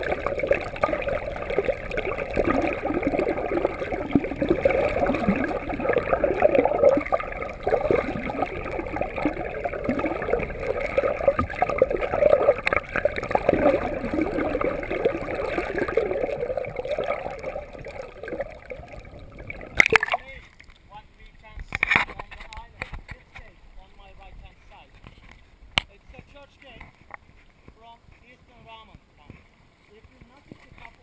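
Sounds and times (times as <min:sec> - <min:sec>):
water sloshing around kayaks: 0:00.0 - 0:24.0, 0:26.2 - 0:31.0.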